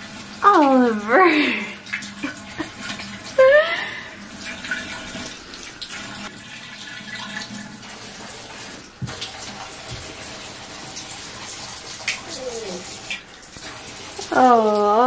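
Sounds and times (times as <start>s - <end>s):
water splashing in bathtub: 0.0s - 15.0s.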